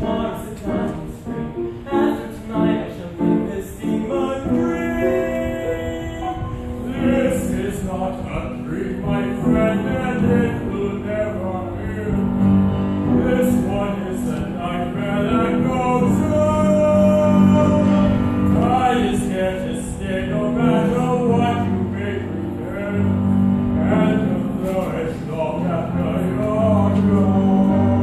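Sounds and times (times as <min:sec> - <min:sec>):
grand piano: 0:00.0 - 0:28.0
man singing: 0:00.0 - 0:28.0.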